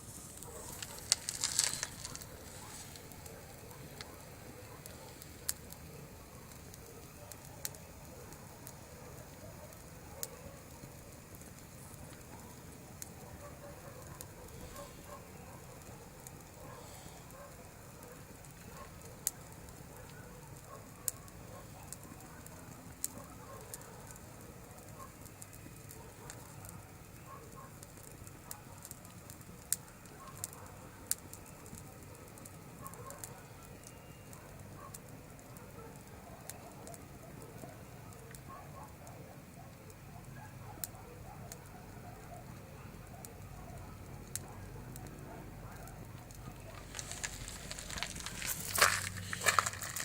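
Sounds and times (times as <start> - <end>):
burning wood popping: 0.0 - 50.0
campfire crackling: 0.0 - 50.0.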